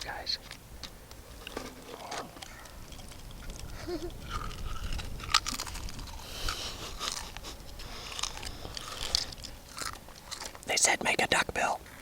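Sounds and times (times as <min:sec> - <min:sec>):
pistachios cracking and chewing: 0:00.4 - 0:12.0.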